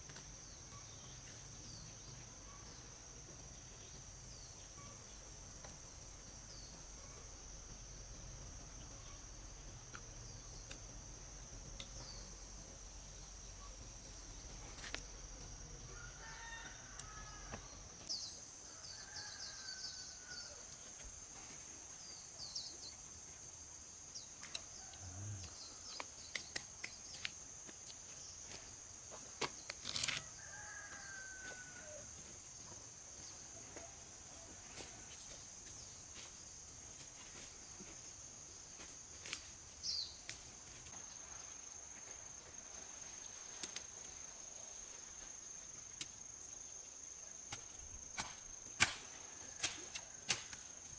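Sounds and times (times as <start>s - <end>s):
crickets droning: 0.0s - 50.9s.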